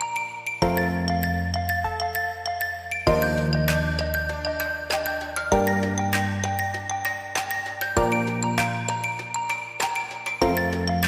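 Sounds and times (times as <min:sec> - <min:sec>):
bell-like melody over bass: 0:00.0 - 0:11.0.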